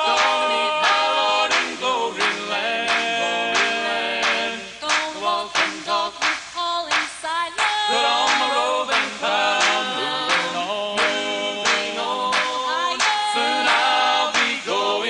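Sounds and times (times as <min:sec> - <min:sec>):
male and female voices singing harmony: 0:00.0 - 0:15.0.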